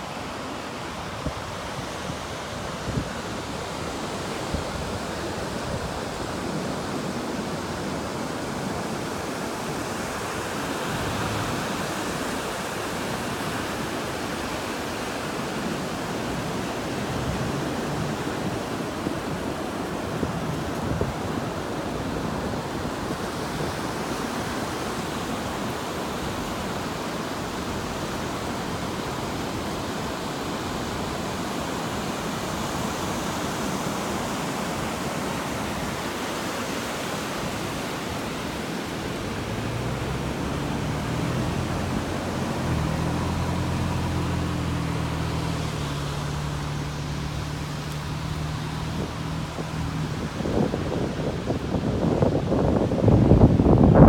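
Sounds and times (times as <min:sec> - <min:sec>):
ocean surf breaking: 0:00.0 - 0:54.0
wind on microphone: 0:00.9 - 0:54.0.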